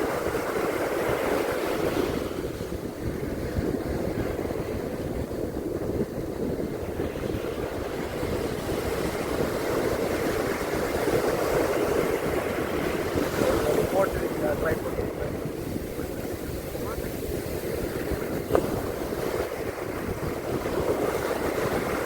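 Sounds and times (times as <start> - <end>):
ocean surf washing on beach: 0.0 - 22.0
wind rumbling on microphone: 0.0 - 22.0.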